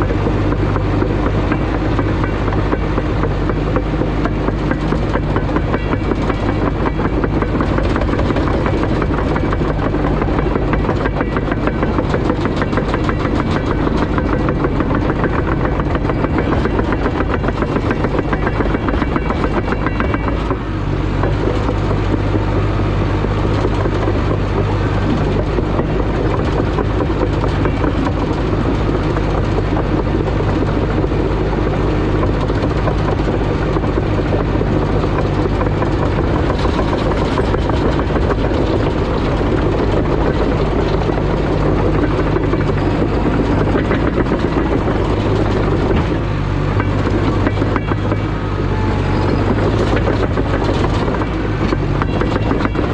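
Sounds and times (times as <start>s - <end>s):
dozer diesel engine running: 0.0s - 52.9s.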